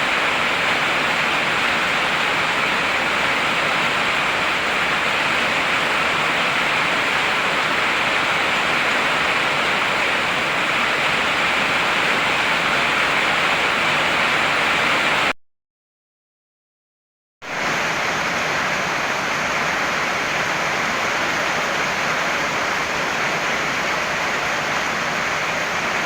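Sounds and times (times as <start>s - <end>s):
heavy rain pouring: 0.0s - 15.3s, 17.4s - 26.0s.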